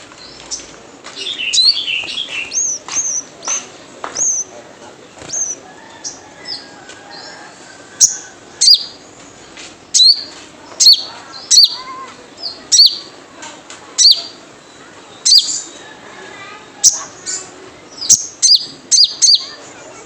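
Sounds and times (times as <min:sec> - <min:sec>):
bird chirping: 0:00.1 - 0:04.6, 0:05.2 - 0:13.2, 0:14.0 - 0:16.0, 0:16.7 - 0:19.6.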